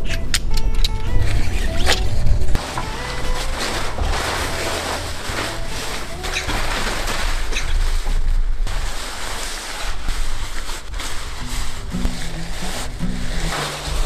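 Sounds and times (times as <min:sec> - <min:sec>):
tent fabric rustling: 0:01.0 - 0:14.0.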